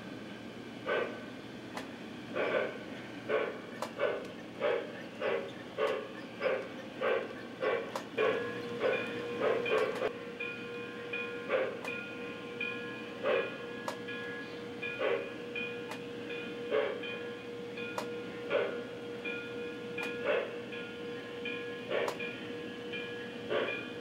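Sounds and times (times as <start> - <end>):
model steam locomotive chuffs: 0.0 - 24.0.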